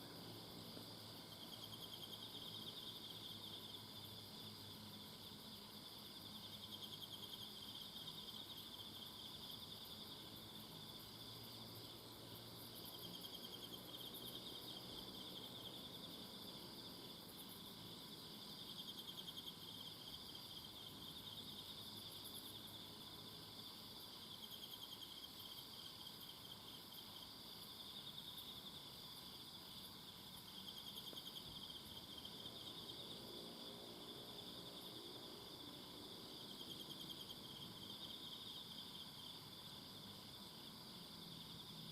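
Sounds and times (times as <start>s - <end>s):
high insect chirping: 0.0s - 41.9s
insects trilling: 0.0s - 41.9s.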